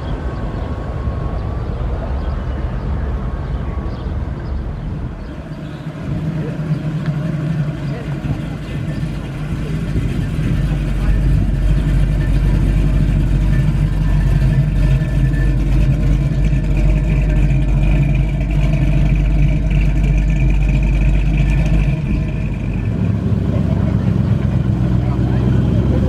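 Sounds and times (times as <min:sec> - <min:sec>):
car exhaust rumble: 0:00.0 - 0:26.0.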